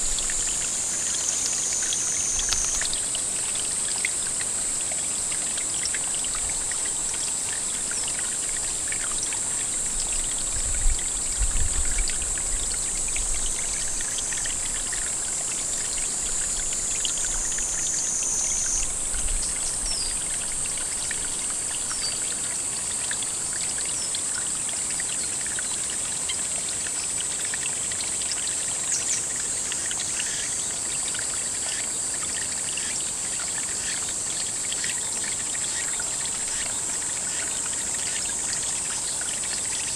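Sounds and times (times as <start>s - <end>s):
high-pitched insect chorus: 0.0s - 25.8s, 28.2s - 39.9s
trickling water: 0.0s - 39.9s.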